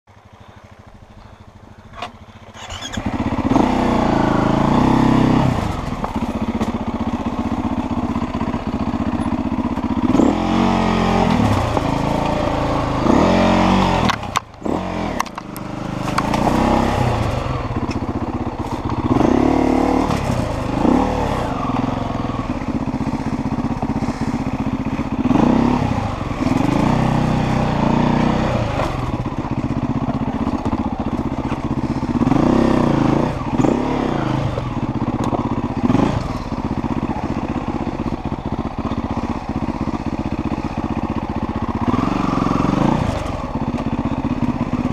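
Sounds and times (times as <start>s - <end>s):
dirt bike engine revving: 2.0s - 44.9s.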